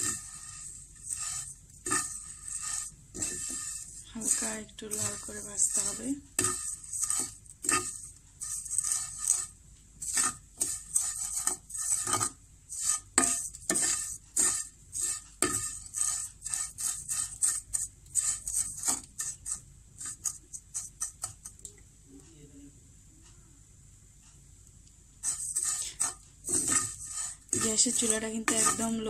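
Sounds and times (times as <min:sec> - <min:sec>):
plastic spoon scraping a frying pan: 0:00.0 - 0:21.6, 0:25.2 - 0:29.0.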